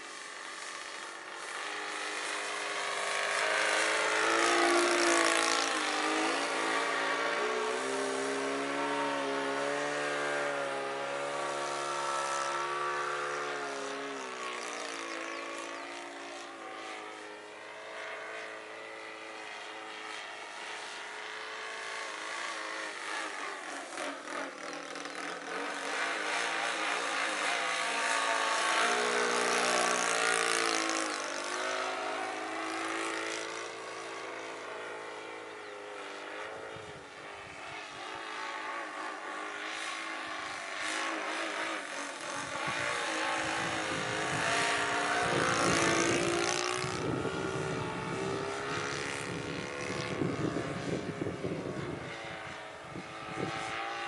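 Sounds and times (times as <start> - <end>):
model plane engine passing overhead: 0.0 - 54.0.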